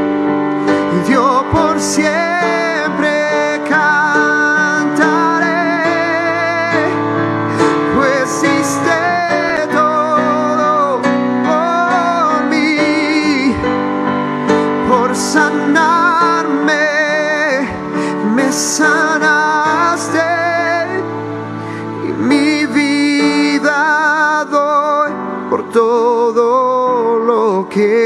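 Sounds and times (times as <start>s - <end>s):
digital piano chords: 0.0s - 28.0s
man singing with vibrato: 0.6s - 28.0s.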